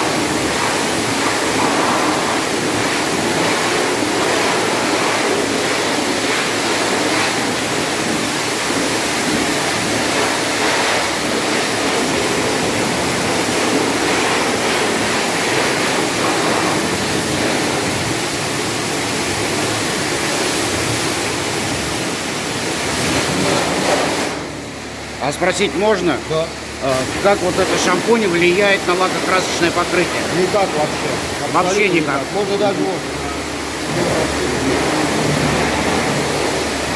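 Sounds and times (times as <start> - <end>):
high-pressure water spray hissing: 0.0 - 36.9.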